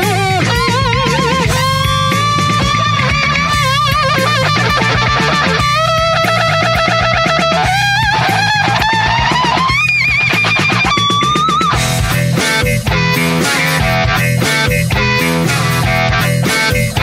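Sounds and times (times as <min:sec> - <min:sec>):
bass backing: 0:00.0 - 0:17.0
electric guitar lead: 0:00.0 - 0:17.0.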